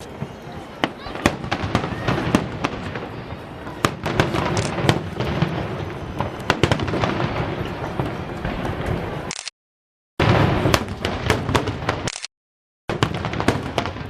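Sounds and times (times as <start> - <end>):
fireworks bangs and crackles: 0.0 - 9.3, 10.2 - 12.1, 12.9 - 14.0.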